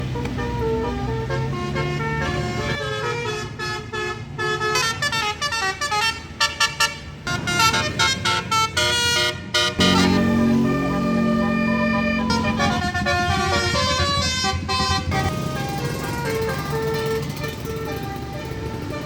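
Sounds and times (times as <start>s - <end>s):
multi-tone bus horn melody: 0.1s - 19.0s.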